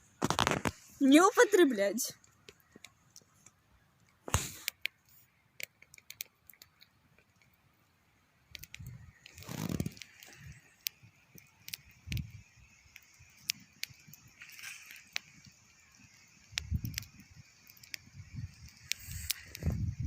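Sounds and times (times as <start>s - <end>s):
campfire crackling: 0.0s - 20.0s
rustle: 0.0s - 20.0s
sharp pops and snaps: 0.2s - 1.0s, 2.2s - 7.6s, 8.5s - 20.0s.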